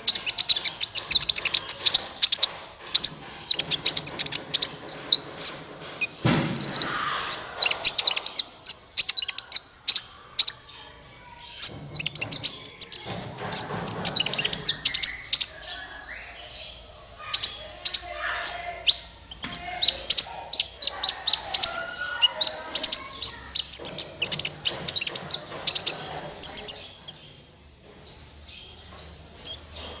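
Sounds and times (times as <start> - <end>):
bird chirps and trills: 0.0 - 27.4.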